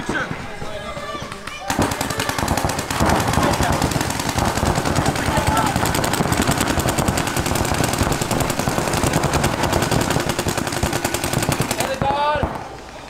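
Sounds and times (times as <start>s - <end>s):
paintball markers firing rapidly: 1.4s - 12.9s.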